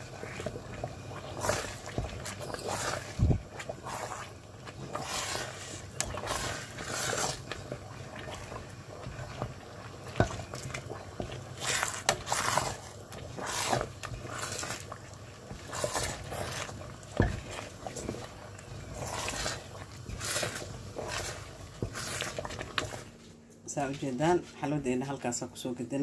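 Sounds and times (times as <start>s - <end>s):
thick food bubbling: 0.0s - 23.3s
wooden spoon scraping pot: 0.0s - 23.3s.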